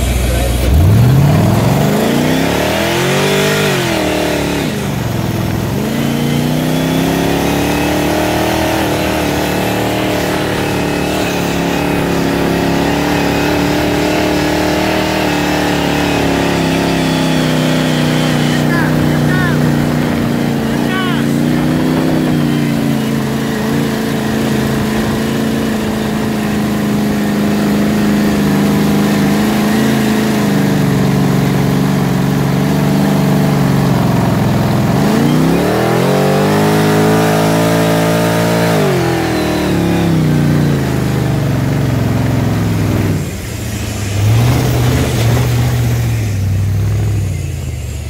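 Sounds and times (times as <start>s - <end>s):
buggy engine running and revving: 0.0s - 48.0s.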